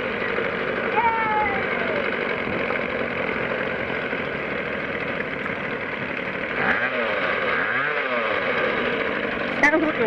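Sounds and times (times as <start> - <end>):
small petrol engine idling: 0.0 - 10.0.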